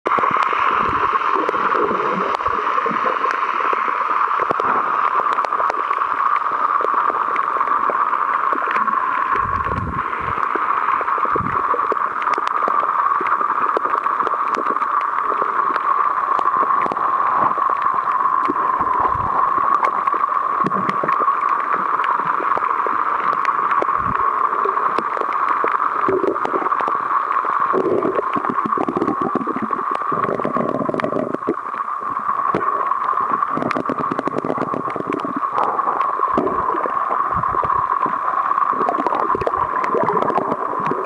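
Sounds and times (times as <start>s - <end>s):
sharp underwater clicks: 0.1s - 41.0s
underwater rushing hiss: 0.1s - 41.0s.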